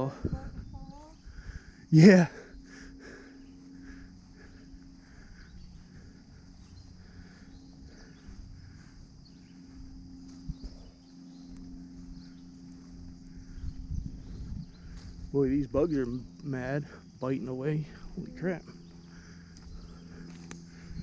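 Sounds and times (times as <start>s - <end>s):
insects calling: 0.0s - 21.0s
low steady hum: 0.0s - 21.0s.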